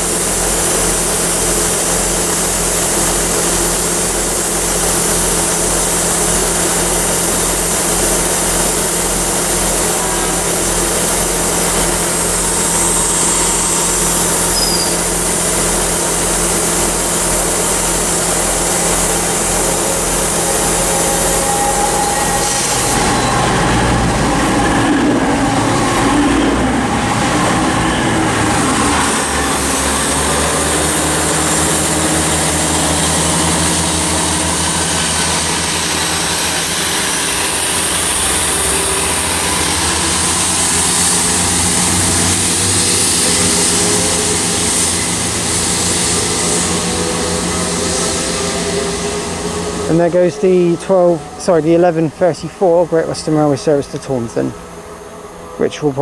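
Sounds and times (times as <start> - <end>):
diesel train engine idling: 0.0 - 56.0.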